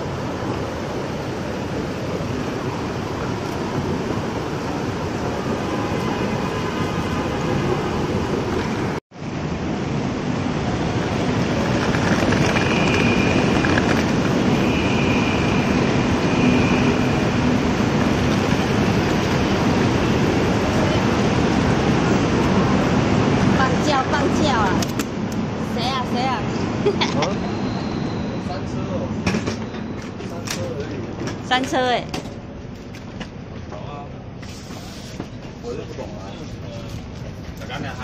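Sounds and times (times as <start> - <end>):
moving train rumbling: 0.0 - 38.0.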